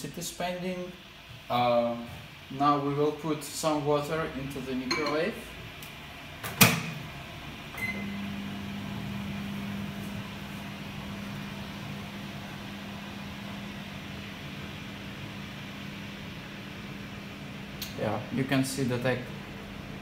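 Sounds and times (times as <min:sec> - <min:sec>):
microwave oven humming: 0:00.1 - 0:20.0.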